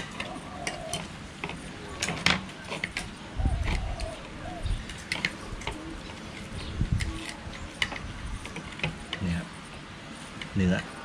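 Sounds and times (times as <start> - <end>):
cutlery scraping on plates: 0.0 - 9.3.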